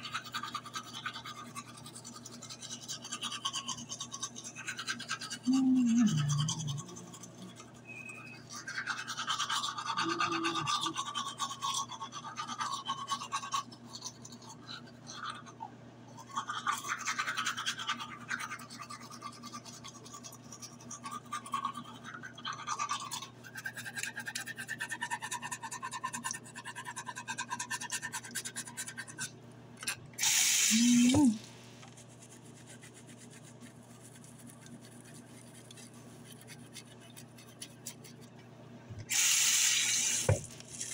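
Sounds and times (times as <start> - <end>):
toothbrush scrubbing teeth: 0.0 - 40.9.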